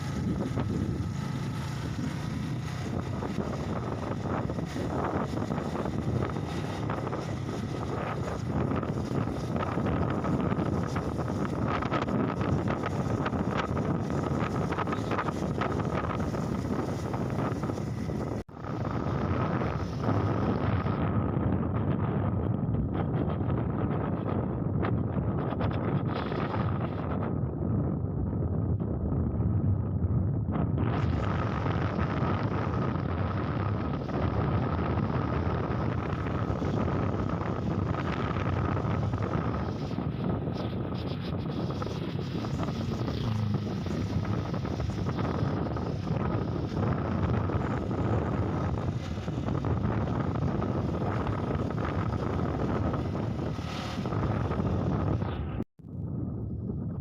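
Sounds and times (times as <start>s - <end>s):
motorcycle engine: 0.0s - 24.4s, 30.8s - 55.6s
wind rushing over microphone: 0.0s - 57.0s.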